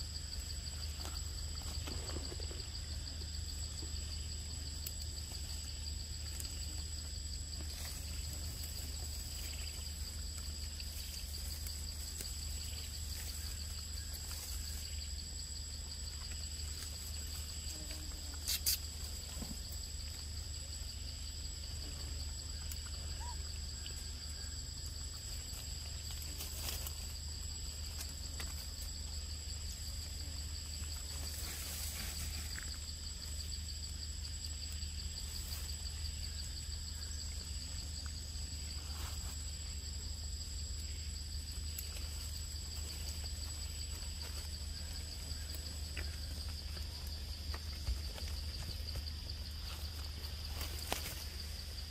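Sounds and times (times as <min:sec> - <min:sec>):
high pulsing insect drone: 0:00.0 - 0:51.9
thin high insect tone: 0:00.0 - 0:51.9.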